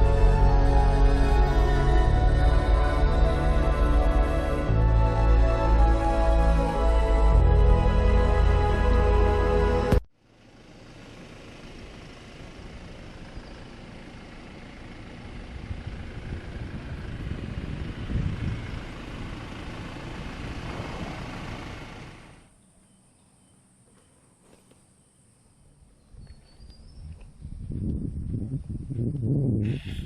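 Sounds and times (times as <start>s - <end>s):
vehicle driving rumble: 0.0s - 30.0s.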